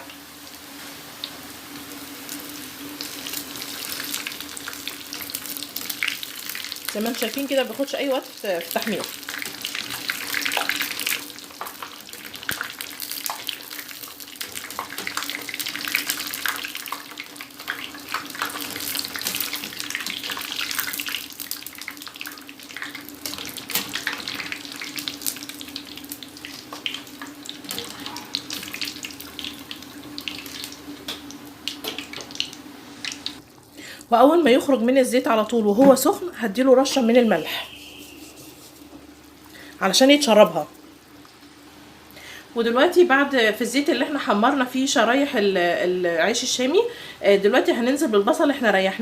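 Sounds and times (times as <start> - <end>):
bread deep-frying in oil: 0.0 - 49.0.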